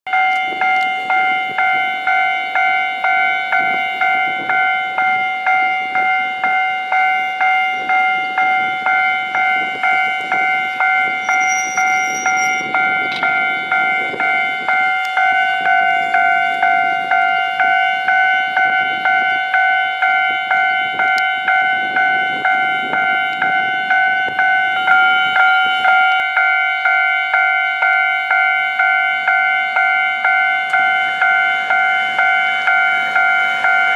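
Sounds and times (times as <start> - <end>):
level-crossing alarm ringing: 0.1 - 33.9.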